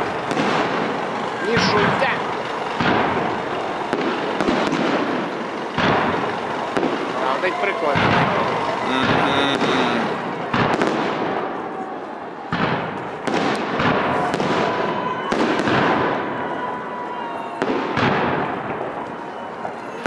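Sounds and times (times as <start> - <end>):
fireworks bangs with rolling echo: 0.0 - 20.0.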